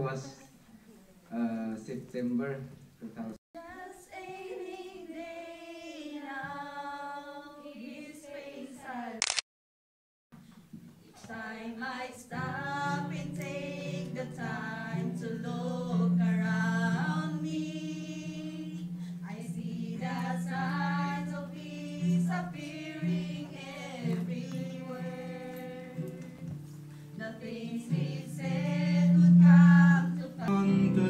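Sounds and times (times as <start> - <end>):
women's group singing: 3.6 - 9.2, 11.0 - 26.6, 27.2 - 31.0.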